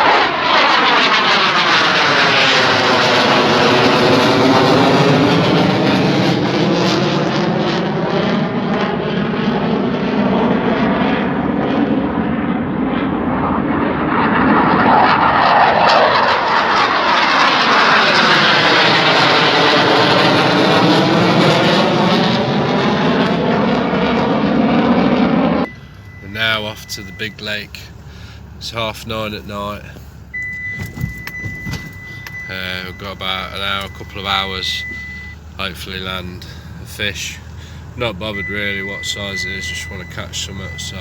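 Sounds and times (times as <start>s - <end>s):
aircraft flying low overhead: 0.0s - 41.0s.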